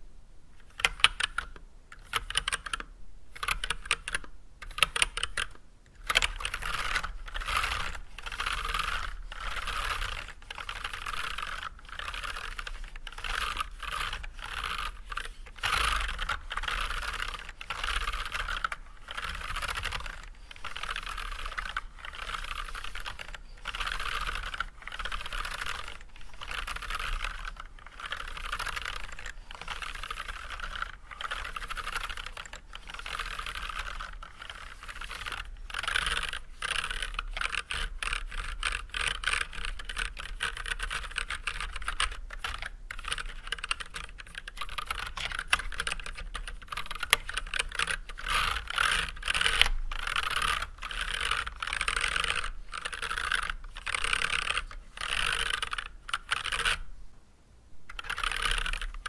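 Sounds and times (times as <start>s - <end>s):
typing on mechanical keyboard: 0.7s - 56.8s, 57.9s - 59.0s.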